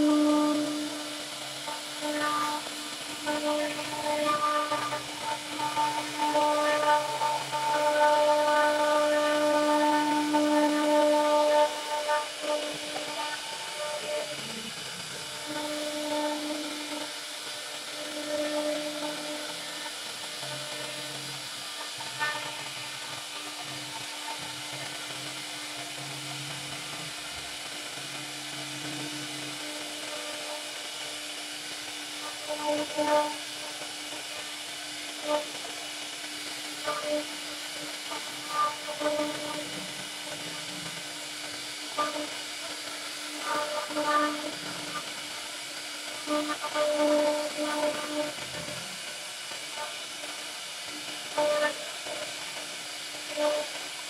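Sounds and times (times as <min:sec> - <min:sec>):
router spindle cutting wood: 0:00.0 - 0:54.0.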